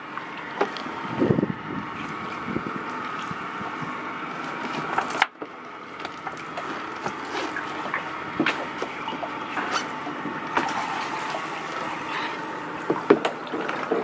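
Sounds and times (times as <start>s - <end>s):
boat engine running: 0.0s - 14.0s
wet line hauled in: 0.0s - 14.0s.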